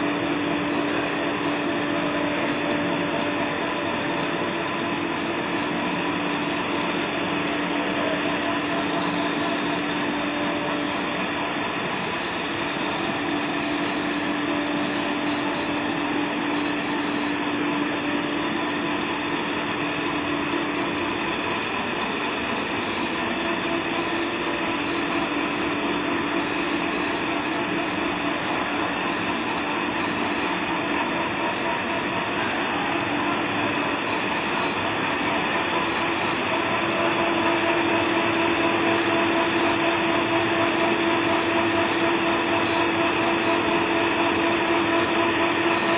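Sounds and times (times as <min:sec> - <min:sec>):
low machine hum: 0:00.0 - 0:45.9
machine rollers whirring: 0:00.0 - 0:45.9.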